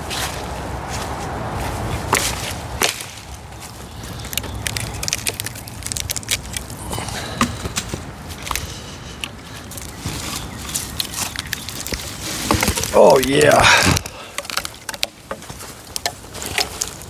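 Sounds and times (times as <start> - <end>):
wood cracking and splintering: 2.1 - 17.0.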